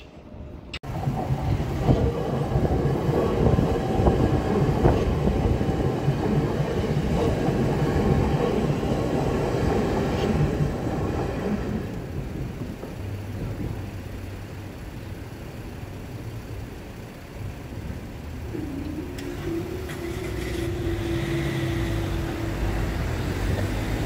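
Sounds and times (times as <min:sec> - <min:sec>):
train cars rumbling: 0:00.0 - 0:24.0.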